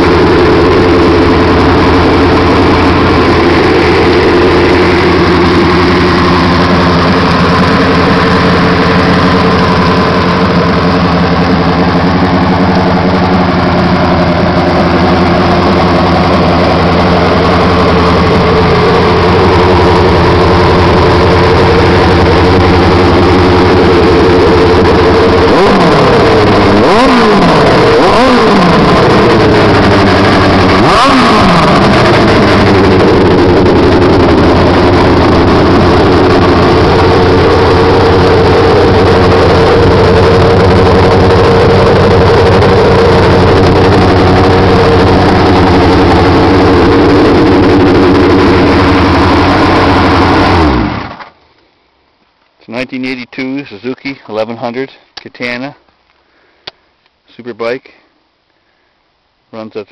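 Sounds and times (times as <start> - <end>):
motorcycle engine idling and revving: 0.0 - 51.4.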